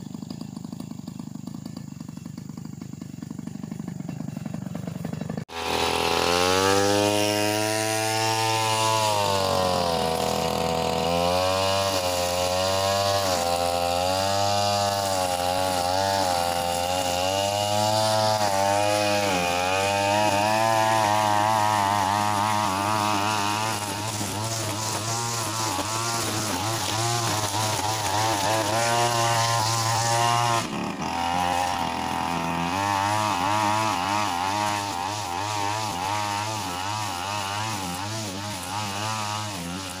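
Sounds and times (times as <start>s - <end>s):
brush cutter petrol engine revving: 0.0s - 40.0s.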